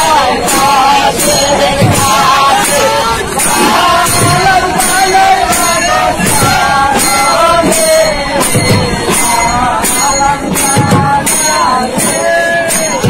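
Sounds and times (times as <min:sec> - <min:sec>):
jingling percussion beat: 0:00.0 - 0:13.0
deep drum hits: 0:00.4 - 0:11.4.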